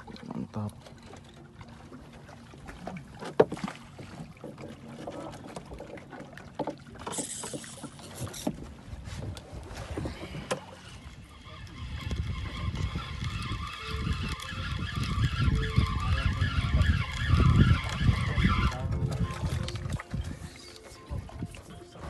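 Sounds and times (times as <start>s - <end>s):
knocks and clatter on boat: 0.0s - 22.0s
low rumble of water and wind: 0.0s - 22.0s.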